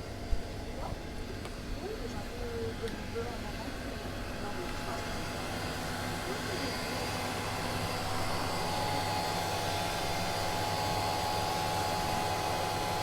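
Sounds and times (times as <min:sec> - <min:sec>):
machinery hum with whining tone: 0:00.0 - 0:13.0.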